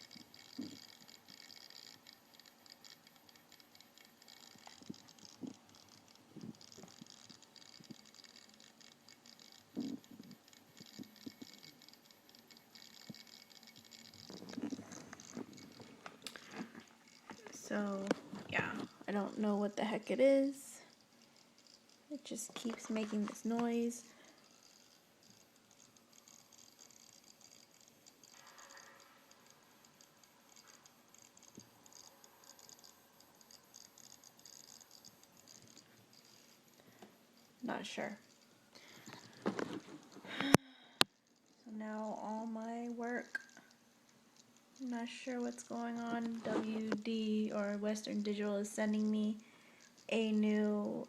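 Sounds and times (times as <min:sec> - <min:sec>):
hard drive static crackle: 0:00.0 - 0:51.0
hard drive ticks and clicks: 0:00.0 - 0:51.0.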